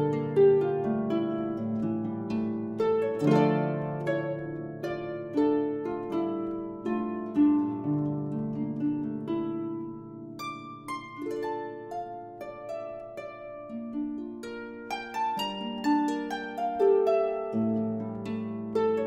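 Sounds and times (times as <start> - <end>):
plucked-string melody: 0.0 - 19.0.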